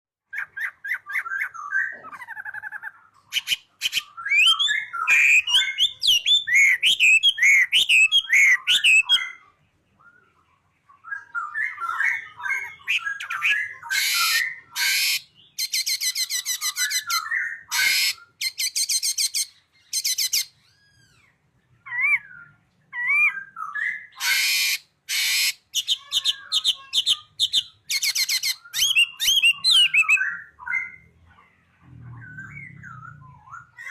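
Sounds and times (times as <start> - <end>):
songbird singing: 0.2 - 33.9.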